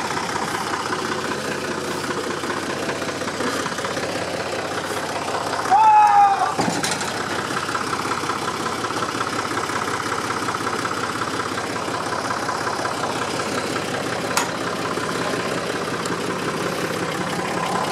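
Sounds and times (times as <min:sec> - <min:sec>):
forklift engine running: 0:00.0 - 0:17.9.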